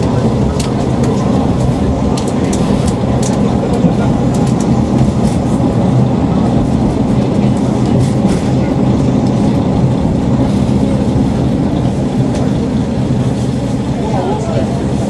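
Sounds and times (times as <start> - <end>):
rail rumble: 0.0 - 15.0
train engine hum: 0.0 - 15.0.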